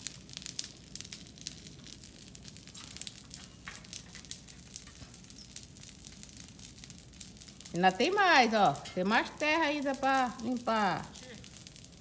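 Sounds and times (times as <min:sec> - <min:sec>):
brush fire crackling and popping: 0:00.0 - 0:12.0
low fire hiss: 0:00.0 - 0:12.0.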